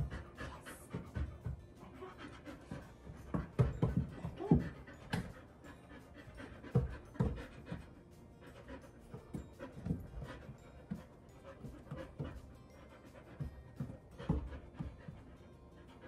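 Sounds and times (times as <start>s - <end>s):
dog panting: 0.0s - 16.0s
paws thumping on wooden stairs: 0.0s - 16.0s.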